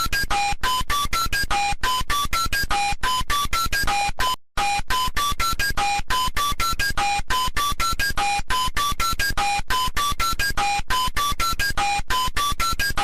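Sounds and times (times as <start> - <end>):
electronic alarm beeps: 0.1 - 13.0.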